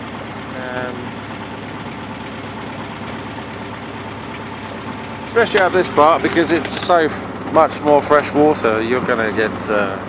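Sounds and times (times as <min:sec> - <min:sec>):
boat engine running steadily: 0:00.0 - 0:10.0.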